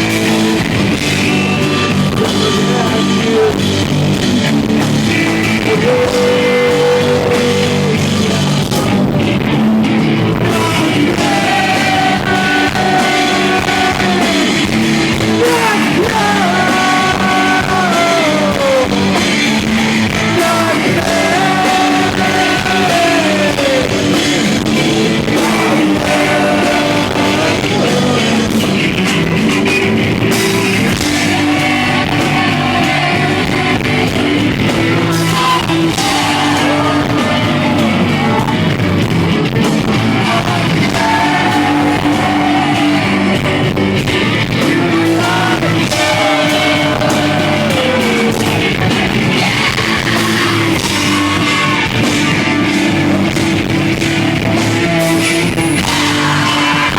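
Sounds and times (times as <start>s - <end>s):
person singing: 0.0s - 9.2s, 10.2s - 29.4s, 30.3s - 56.9s
rock band playing live: 0.0s - 56.9s.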